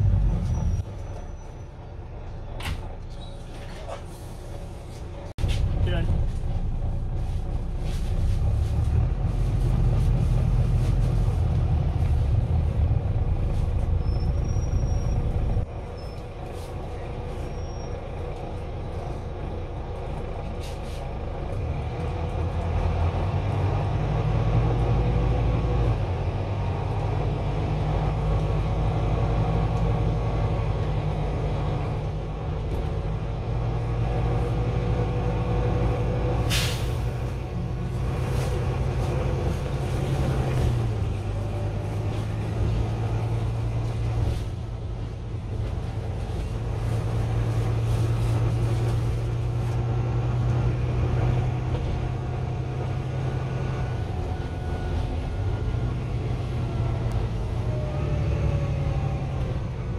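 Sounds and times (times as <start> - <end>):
bus diesel engine rumble: 0.0 - 59.9
rising engine whine: 5.2 - 59.9.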